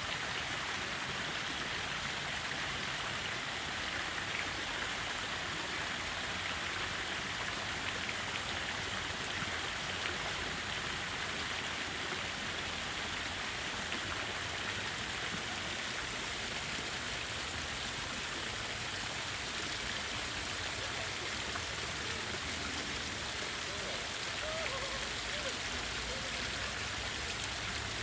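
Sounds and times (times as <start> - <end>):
fountain water splashing: 0.0 - 28.0.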